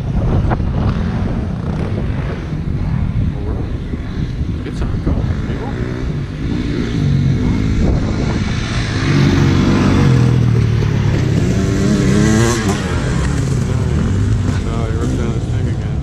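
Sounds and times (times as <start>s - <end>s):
dirt bike engines revving: 0.0s - 16.0s
dirt bike passing by: 0.0s - 16.0s.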